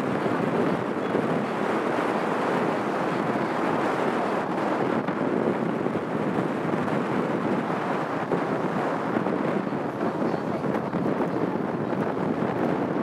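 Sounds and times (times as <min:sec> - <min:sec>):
water rushing past boat: 0:00.0 - 0:13.0
wind rushing: 0:00.0 - 0:13.0.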